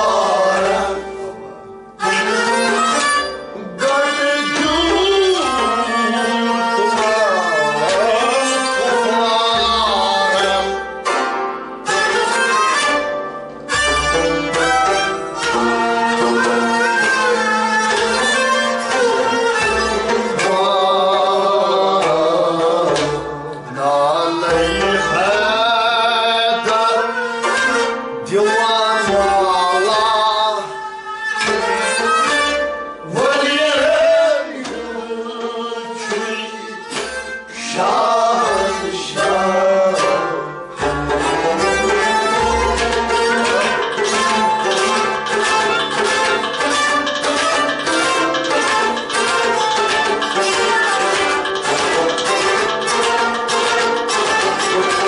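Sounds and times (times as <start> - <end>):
bowed string instruments: 0.0 - 55.0.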